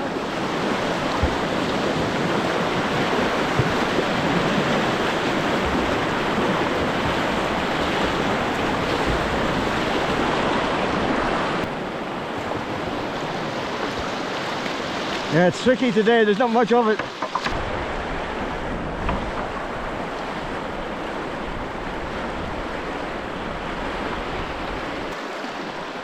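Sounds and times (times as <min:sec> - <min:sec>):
rushing white water: 0:00.0 - 0:26.0.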